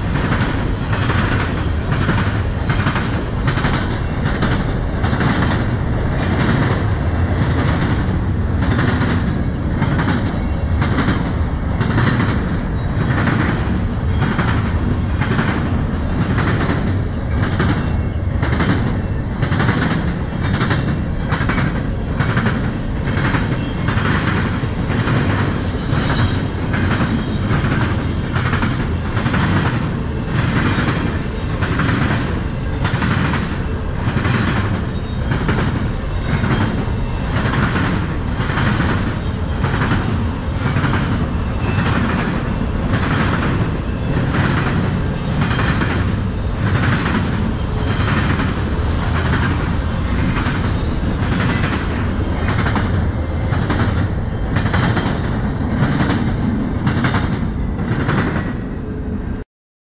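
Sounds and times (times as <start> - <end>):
train wheels clacking: 0.0 - 58.6
freight train rumbling past: 0.0 - 59.4.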